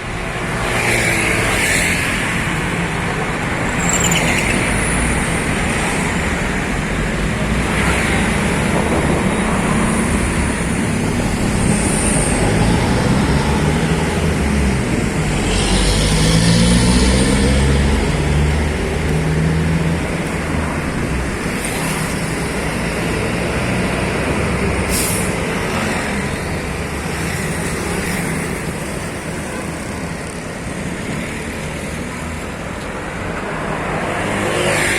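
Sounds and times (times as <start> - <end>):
heavy road traffic: 0.0 - 34.9.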